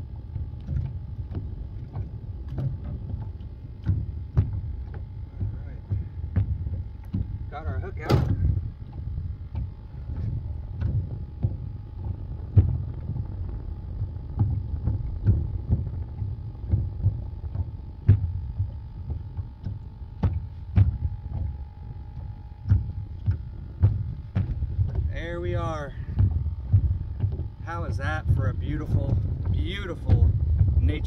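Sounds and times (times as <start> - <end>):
knocks and thumps in boat: 0.0 - 31.0
wind rumbling on microphone: 0.0 - 31.0.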